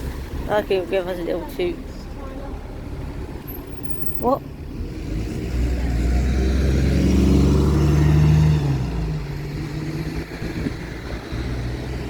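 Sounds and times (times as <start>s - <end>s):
diesel bus engine driving past: 0.0s - 12.0s.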